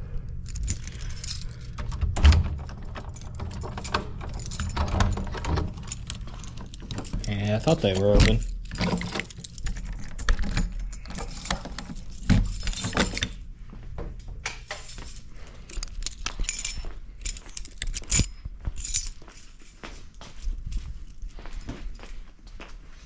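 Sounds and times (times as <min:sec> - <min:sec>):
keys jangling: 0:00.2 - 0:13.5, 0:14.2 - 0:22.3.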